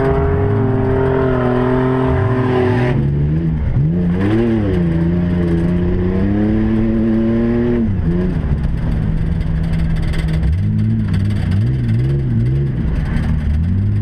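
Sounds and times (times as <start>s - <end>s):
truck engines revving: 0.0s - 14.0s.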